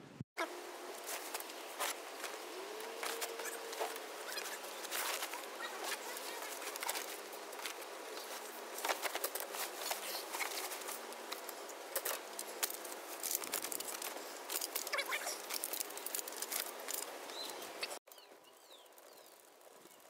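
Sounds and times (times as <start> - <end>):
bags and fabric rustling: 0.8 - 18.0.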